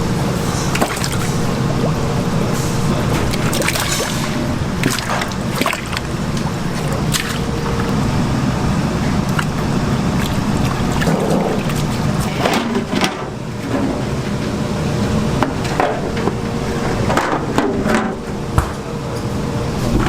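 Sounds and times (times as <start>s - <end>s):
low hum and rush: 0.0s - 20.0s.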